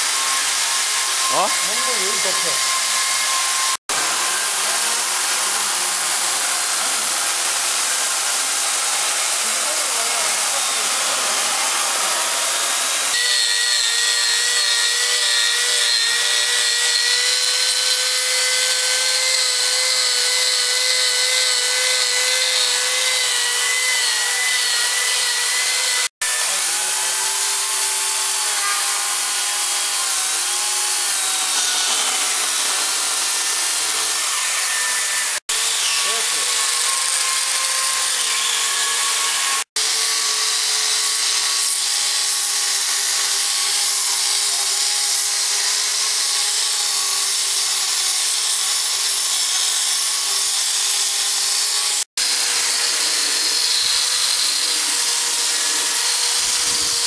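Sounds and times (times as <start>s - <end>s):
electric chainsaw cutting wood: 0.0s - 57.0s
multi-cutter carving wood: 0.0s - 57.0s.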